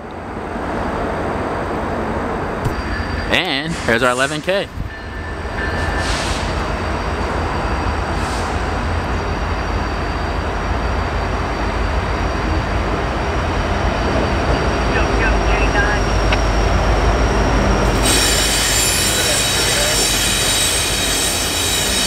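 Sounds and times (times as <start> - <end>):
diesel locomotive engine rumble: 0.0 - 22.0
steel wheels on rail: 2.6 - 22.0.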